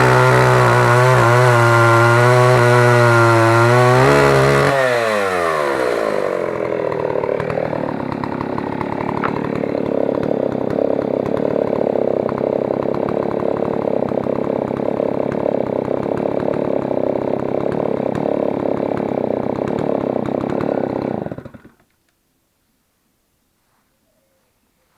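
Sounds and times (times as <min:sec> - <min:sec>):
chainsaw engine idling: 0:00.0 - 0:21.9.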